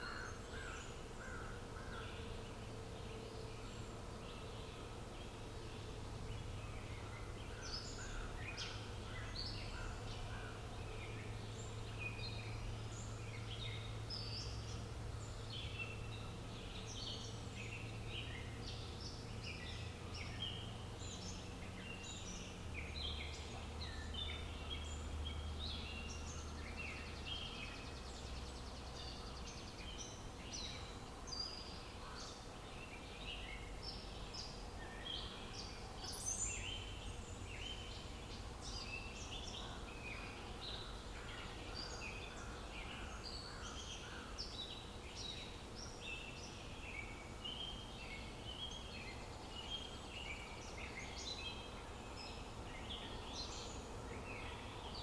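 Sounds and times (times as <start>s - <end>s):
small birds chirping chorus: 0.0s - 55.0s.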